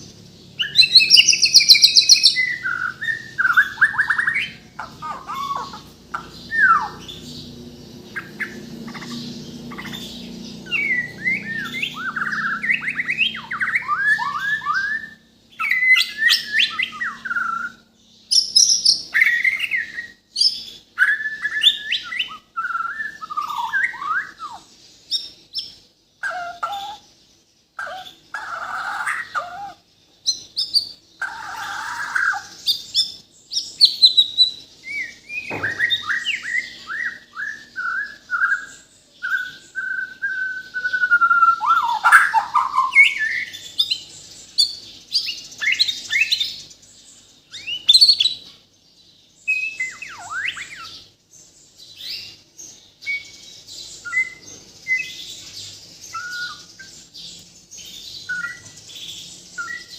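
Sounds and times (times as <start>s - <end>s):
bird singing varied song: 0.0s - 59.9s.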